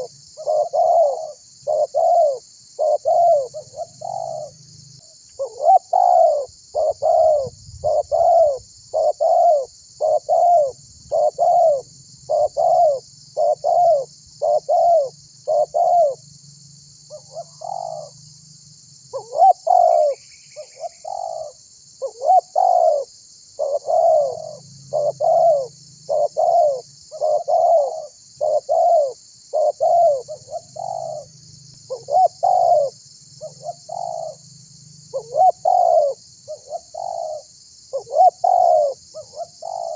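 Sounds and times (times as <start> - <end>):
dove cooing: 0.0 - 4.6, 5.4 - 16.2, 17.1 - 18.2, 19.1 - 34.4, 35.1 - 39.9.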